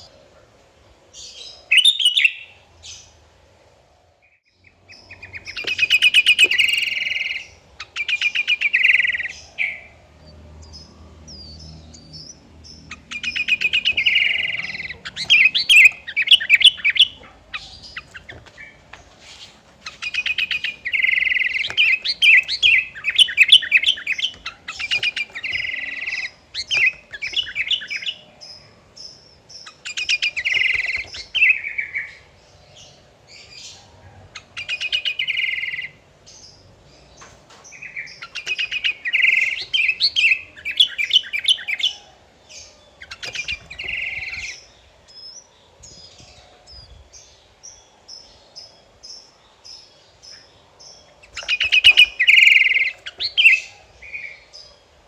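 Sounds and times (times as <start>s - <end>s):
bulbul singing: 1.1s - 3.2s, 4.6s - 19.0s, 19.8s - 55.0s
soft high bird chirps: 4.4s - 33.8s, 34.4s - 55.0s.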